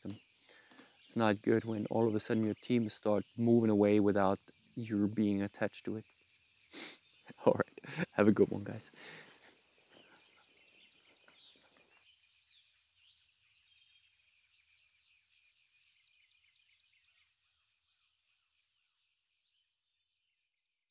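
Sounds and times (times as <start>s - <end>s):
faint bird calls: 0.0s - 19.1s.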